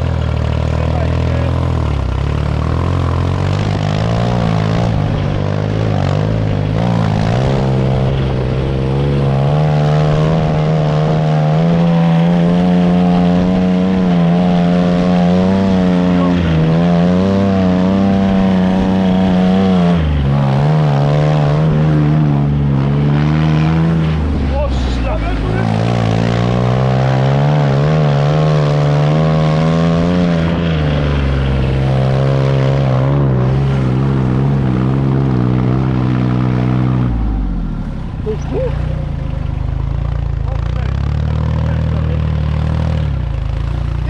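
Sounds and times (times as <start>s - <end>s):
motorcycle engine running: 0.0s - 29.4s, 30.0s - 44.0s.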